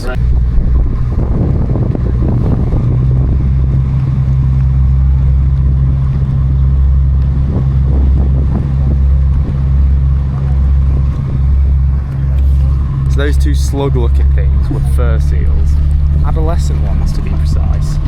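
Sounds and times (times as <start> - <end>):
boat engines droning: 0.0 - 18.0
wind buffeting microphone: 0.0 - 18.0.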